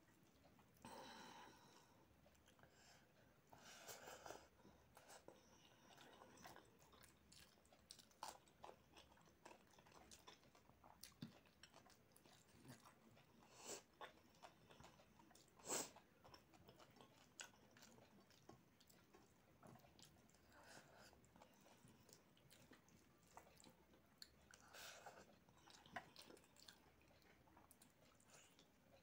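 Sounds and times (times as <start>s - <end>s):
close-up chewing: 0.0s - 29.0s.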